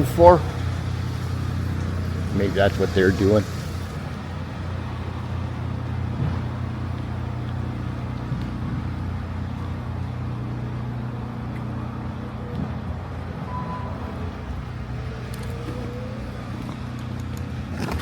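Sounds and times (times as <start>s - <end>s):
electric bike hum and rumble: 0.0s - 18.0s.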